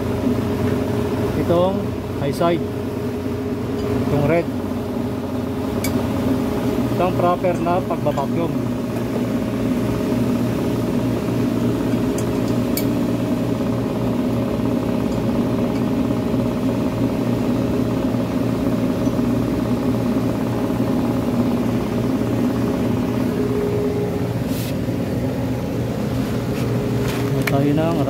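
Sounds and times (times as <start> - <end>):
vacuum pump humming: 0.0 - 28.0.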